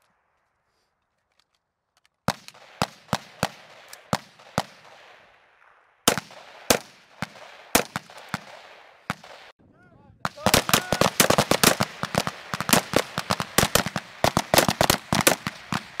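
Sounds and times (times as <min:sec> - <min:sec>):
rifle shots with echo: 0:02.3 - 0:09.5, 0:10.2 - 0:16.0.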